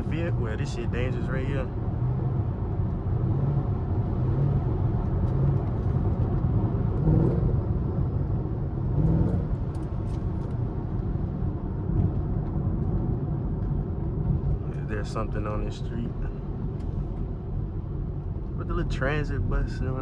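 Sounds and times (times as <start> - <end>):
car engine droning: 0.0 - 20.0
road noise: 0.0 - 20.0.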